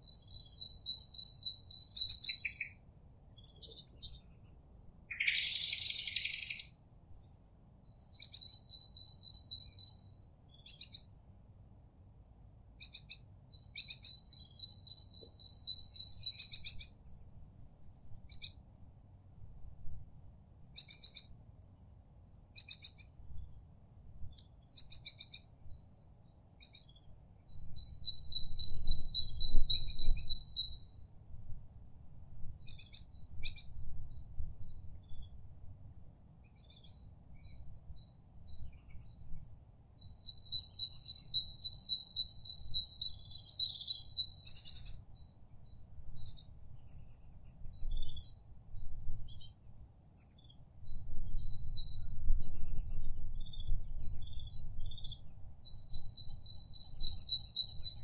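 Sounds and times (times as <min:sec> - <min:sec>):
songbirds singing trills: 0:00.0 - 0:11.2, 0:12.8 - 0:18.7, 0:20.3 - 0:23.6, 0:24.3 - 0:58.0.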